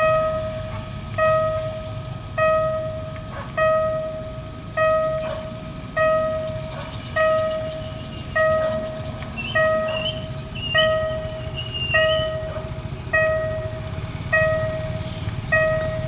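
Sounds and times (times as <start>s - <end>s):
level crossing bell ringing: 0.0s - 16.0s.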